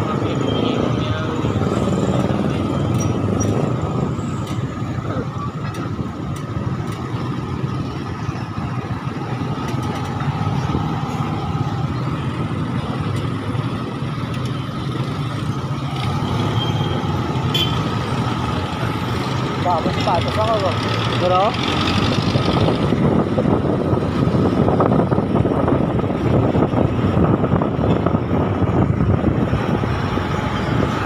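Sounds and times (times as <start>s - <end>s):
vehicle engine running: 1.2s - 31.0s.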